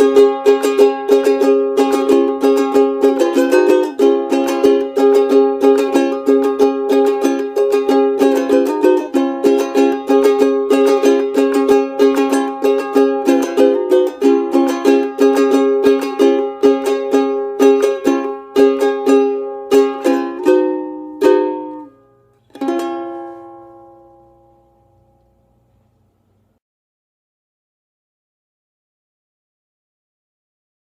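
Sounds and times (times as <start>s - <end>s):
ukulele strumming: 0.0s - 26.5s.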